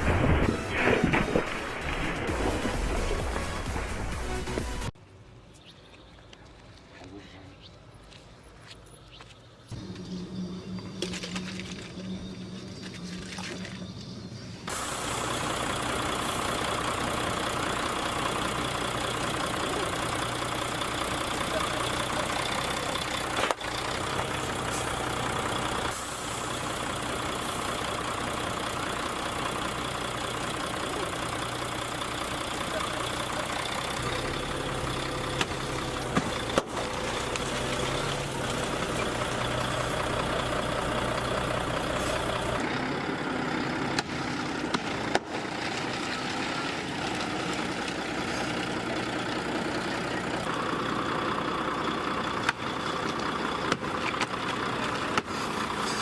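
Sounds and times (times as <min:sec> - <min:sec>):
truck engine idling: 0:00.0 - 0:05.0, 0:14.0 - 0:56.0.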